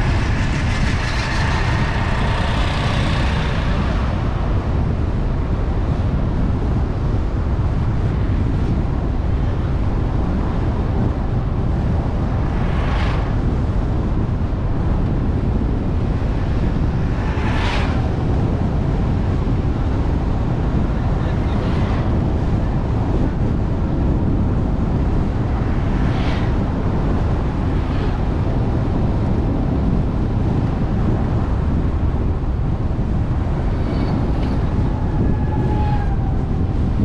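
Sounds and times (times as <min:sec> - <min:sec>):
road rumble: 0:00.0 - 0:37.0
wind noise: 0:00.0 - 0:37.0.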